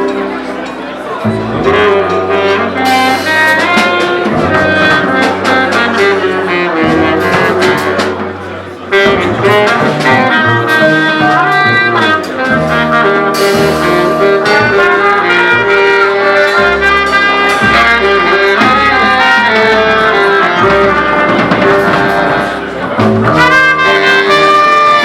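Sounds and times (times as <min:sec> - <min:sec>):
horns holding long notes: 0:00.0 - 0:25.0
live band playing loudly: 0:00.0 - 0:25.0.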